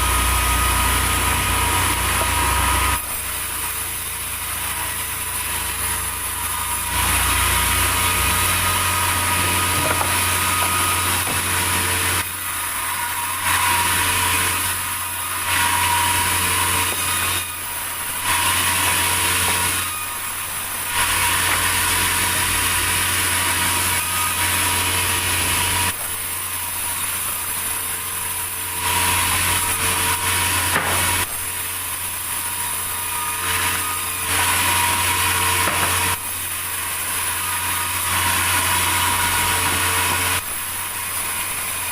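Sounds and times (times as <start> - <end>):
sawmill saw cutting wood: 0.0 - 41.9
steady motor hum: 0.0 - 41.9.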